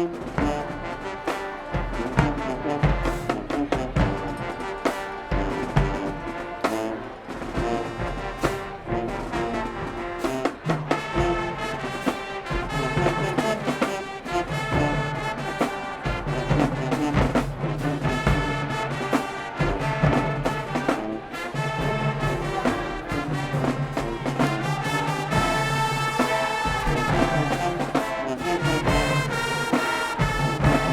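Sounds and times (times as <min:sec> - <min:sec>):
brass instruments playing: 0:00.0 - 0:30.9
drum hits: 0:01.8 - 0:30.9.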